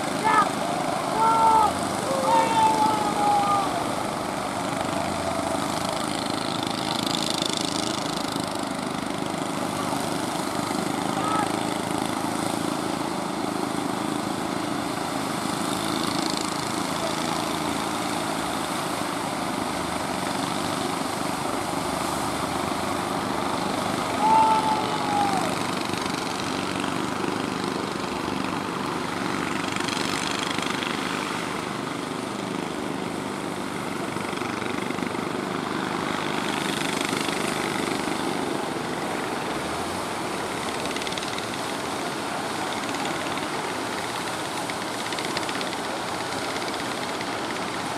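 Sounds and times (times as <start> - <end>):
boat engine running: 0.0 - 47.9
surf washing: 0.0 - 47.9.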